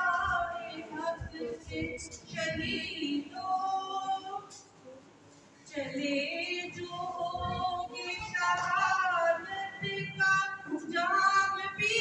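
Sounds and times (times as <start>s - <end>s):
woman singing into a microphone: 0.0s - 4.9s, 5.6s - 12.0s.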